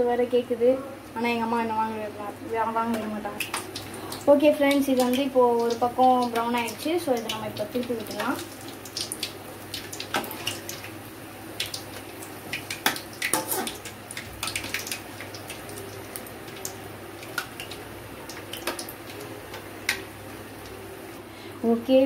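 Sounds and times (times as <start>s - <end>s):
oil sizzling with pops: 2.8s - 21.2s.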